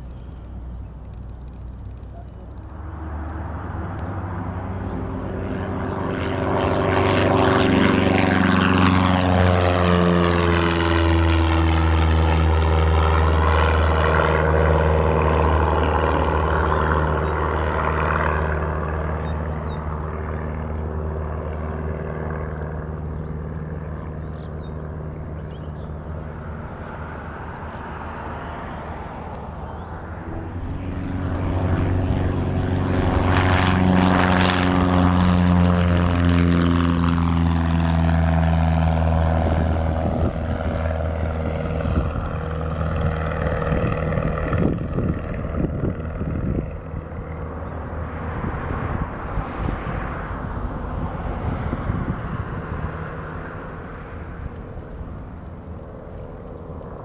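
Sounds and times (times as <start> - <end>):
propeller airplane engine drone: 0.0 - 57.0.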